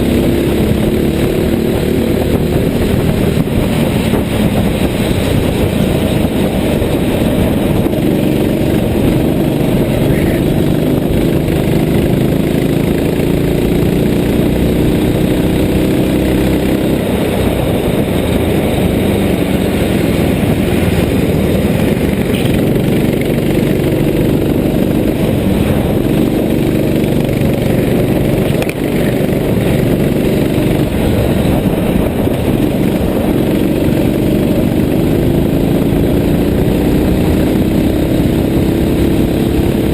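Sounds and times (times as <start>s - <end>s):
rushing noise: 0.0s - 38.5s
kart engine revving: 0.0s - 39.9s.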